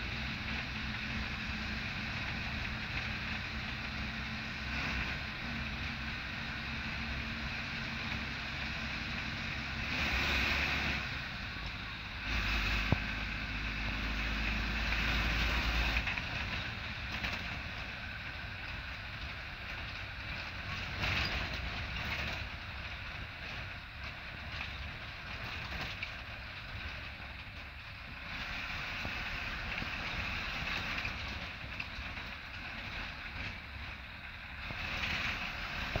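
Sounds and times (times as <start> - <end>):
bus diesel engine running: 0.0 - 36.0
road and wind noise: 0.0 - 36.0.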